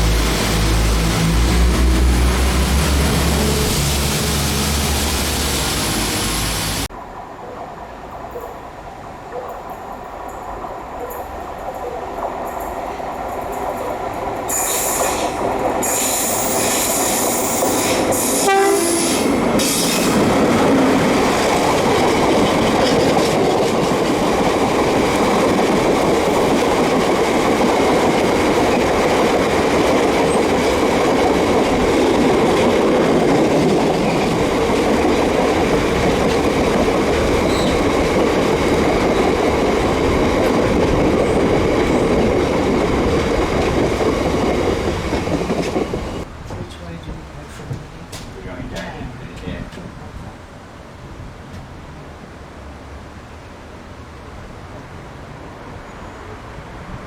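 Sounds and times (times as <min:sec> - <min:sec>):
train wheels rumbling on rail: 0:00.0 - 0:07.0, 0:07.6 - 0:53.0.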